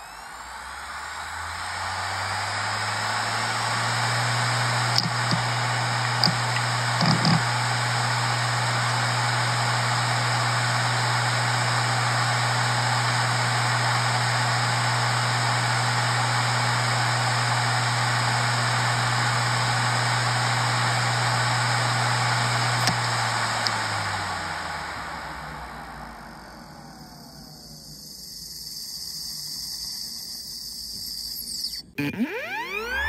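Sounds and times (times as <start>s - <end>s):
hard drive humming and whirring: 0.0s - 33.0s.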